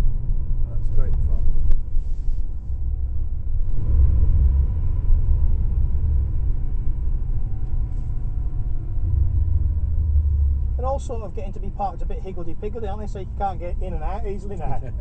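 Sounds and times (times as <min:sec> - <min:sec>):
car engine low rumble: 0:00.0 - 0:15.0
road noise: 0:00.0 - 0:15.0.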